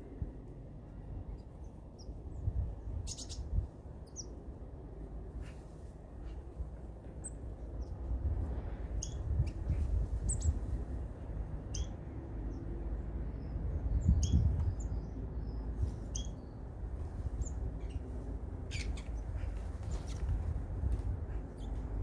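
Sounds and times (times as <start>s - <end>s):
small birds chirping: 0.9s - 4.6s, 5.3s - 22.0s.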